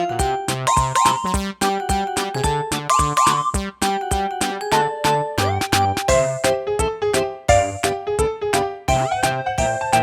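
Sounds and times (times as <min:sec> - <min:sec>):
upbeat synth keyboard music: 0:00.0 - 0:10.0.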